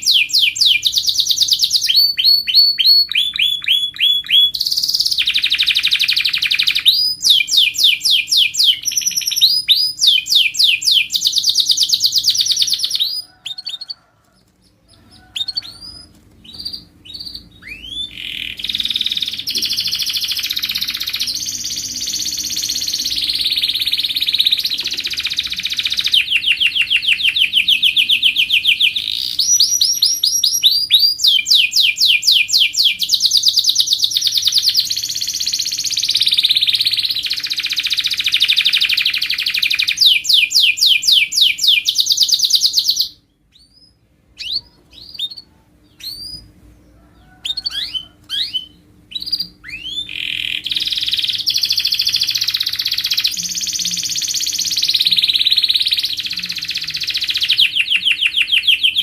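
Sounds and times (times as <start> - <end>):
canary singing trills: 0.0 - 59.0
short canary chirps: 0.0 - 59.0.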